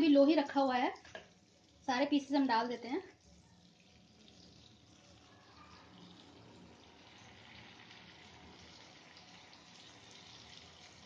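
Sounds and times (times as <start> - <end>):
chicken sizzling in a pan: 0.1 - 11.0.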